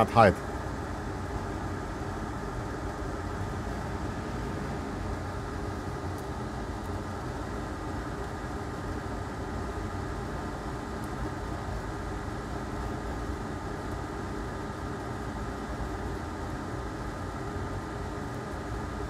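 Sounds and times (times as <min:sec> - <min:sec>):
rushing fan noise: 0:00.0 - 0:19.0.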